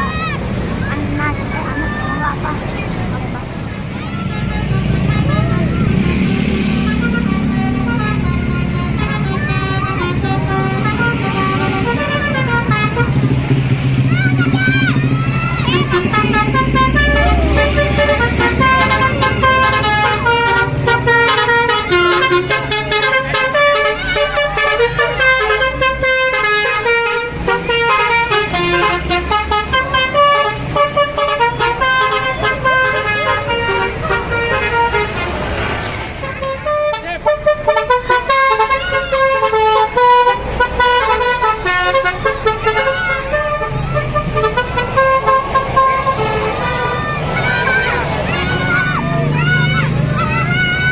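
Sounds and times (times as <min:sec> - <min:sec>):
low vehicle engine drone: 0:00.0 - 0:50.9
musical vehicle horn tune: 0:03.8 - 0:50.9.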